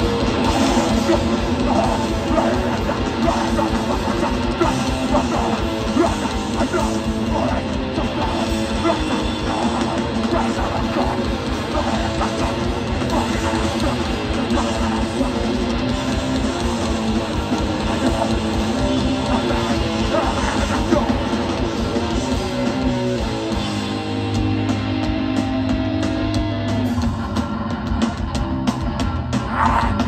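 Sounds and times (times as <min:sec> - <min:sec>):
drum and cymbal hits: 0:00.0 - 0:30.0
punk band playing live: 0:00.0 - 0:30.0.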